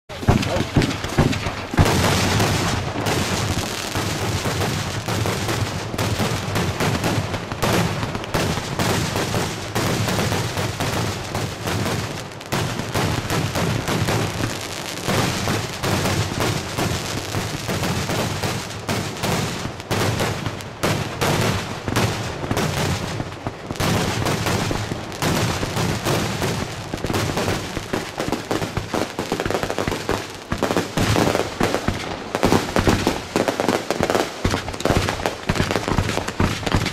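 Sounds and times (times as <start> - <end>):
firework barrage bangs and crackles: 0.0 - 36.9.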